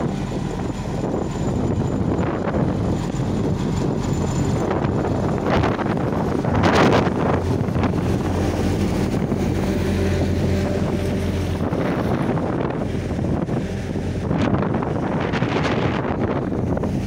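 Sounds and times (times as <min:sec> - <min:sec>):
road roller diesel engine: 0:00.0 - 0:17.0
wind buffeting microphone: 0:00.0 - 0:17.0.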